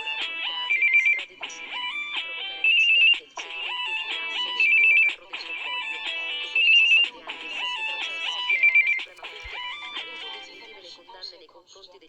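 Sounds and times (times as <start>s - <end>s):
electronic ringtone melody: 0.0s - 10.8s.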